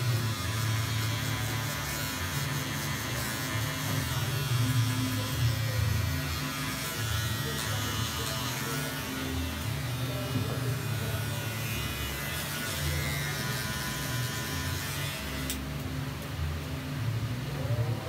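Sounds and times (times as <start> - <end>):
electric hair clippers buzzing: 0.0 - 15.7.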